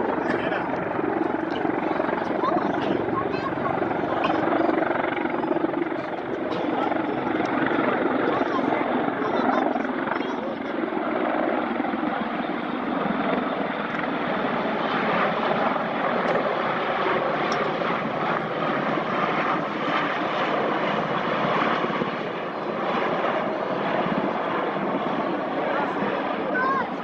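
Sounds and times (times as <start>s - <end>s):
helicopter rotors: 0.0s - 27.0s
turboprop aircraft engines: 0.0s - 27.0s.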